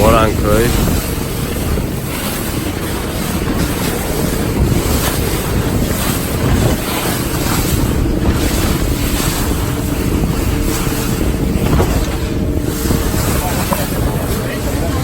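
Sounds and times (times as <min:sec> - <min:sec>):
boat moving at speed: 0:00.0 - 0:15.0
water slapping the hull: 0:00.0 - 0:15.0
wind on microphone: 0:00.0 - 0:15.0.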